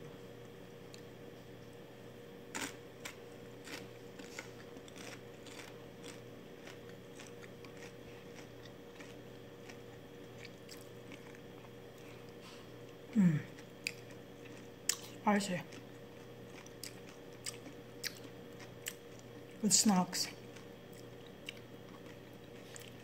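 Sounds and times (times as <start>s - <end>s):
steady low hum: 0.0s - 23.0s
person chewing crunchy snack: 2.5s - 12.5s, 13.1s - 19.6s, 20.3s - 23.0s.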